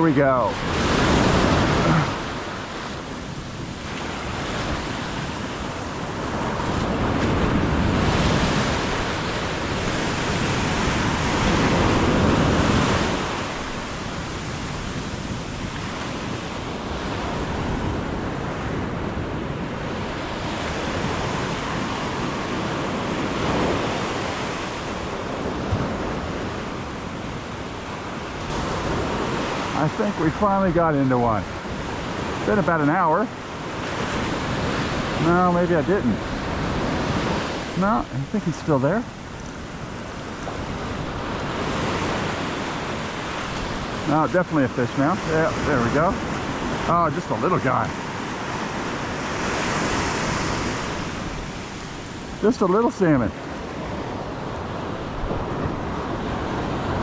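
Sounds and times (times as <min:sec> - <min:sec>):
wind on the microphone: 0:00.0 - 0:44.4, 0:53.4 - 0:57.0
surf breaking on a beach: 0:00.0 - 0:57.0.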